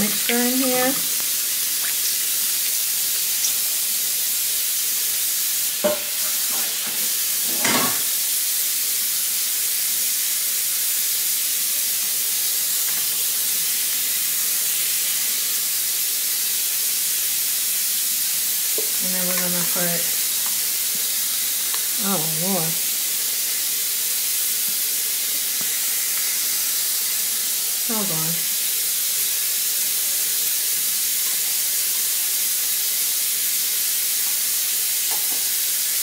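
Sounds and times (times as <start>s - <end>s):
stir-fry sizzling in a pan: 0.0s - 36.0s.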